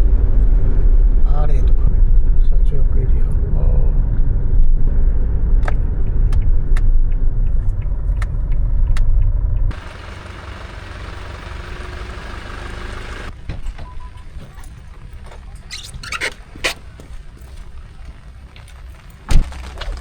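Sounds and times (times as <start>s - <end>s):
vehicle road rumble: 0.0s - 20.0s.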